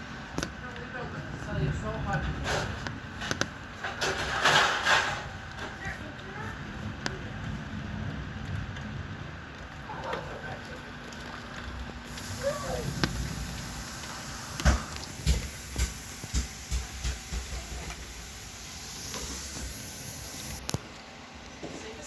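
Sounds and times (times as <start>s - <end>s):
rain hissing: 0.0s - 21.2s.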